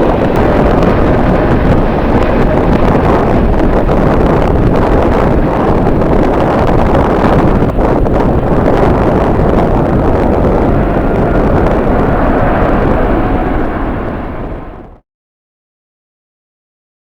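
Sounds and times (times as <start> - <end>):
jet engine noise: 0.0 - 15.0
wind buffeting microphone: 0.0 - 15.0.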